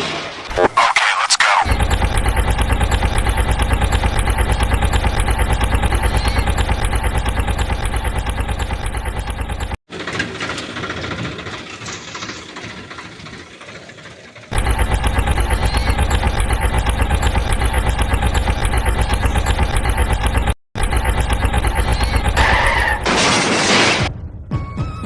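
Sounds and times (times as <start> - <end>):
quieter engine rumble: 1.7 - 23.1
engine idling chugging: 1.7 - 23.2.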